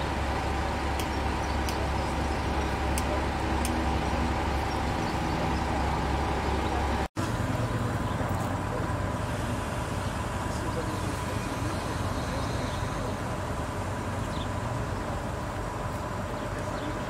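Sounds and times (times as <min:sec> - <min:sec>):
diesel engines rumbling: 0:00.0 - 0:17.0
steady low hum: 0:00.0 - 0:17.0.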